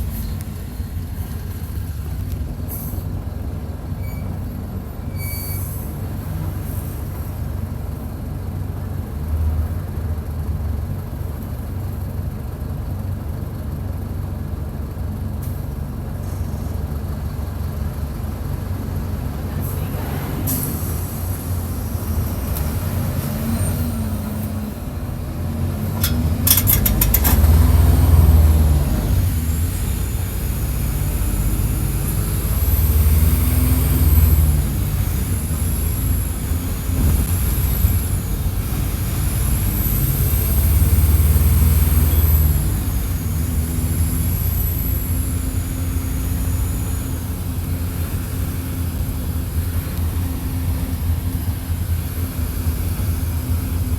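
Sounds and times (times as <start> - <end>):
bus engine running under load: 0.0 - 53.9.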